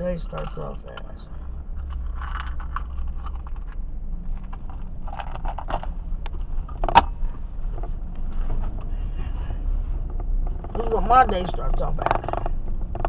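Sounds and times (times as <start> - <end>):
car cabin rumble: 0.0 - 13.0
small clicks and rattles: 0.2 - 8.9, 10.0 - 13.0.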